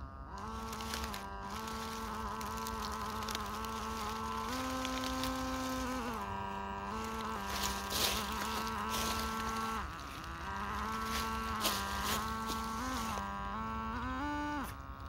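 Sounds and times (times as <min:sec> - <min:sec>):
electric motor and gearbox whine: 0:00.0 - 0:15.0
dry leaves and twigs crackling: 0:00.2 - 0:15.0.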